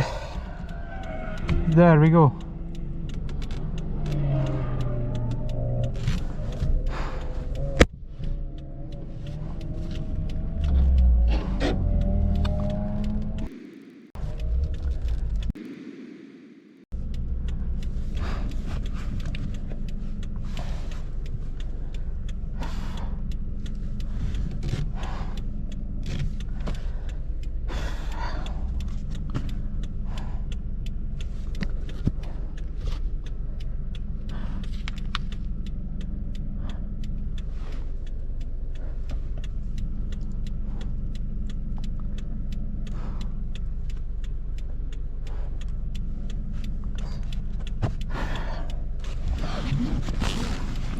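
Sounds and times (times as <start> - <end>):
car driving rumble: 0.0 - 50.9.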